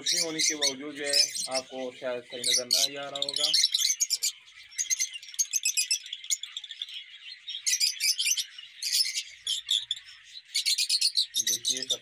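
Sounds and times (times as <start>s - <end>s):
birds chirping and chattering: 0.0s - 12.0s.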